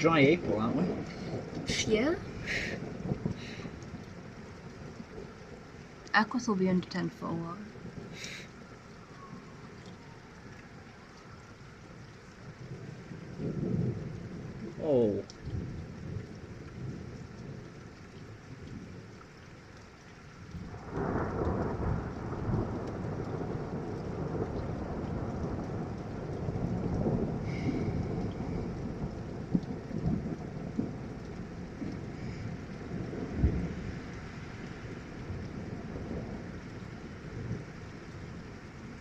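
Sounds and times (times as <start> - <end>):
distant thunder rumbling: 0.0 - 11.4, 12.1 - 19.2, 20.4 - 39.0
steady rain: 0.0 - 39.0.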